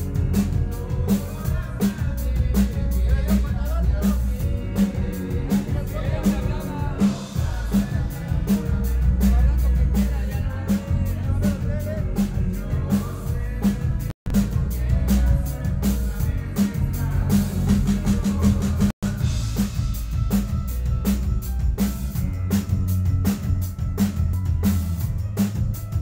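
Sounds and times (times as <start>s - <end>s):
bass: 0.0s - 26.0s
drum kit: 0.0s - 26.0s
live band playing: 0.0s - 26.0s.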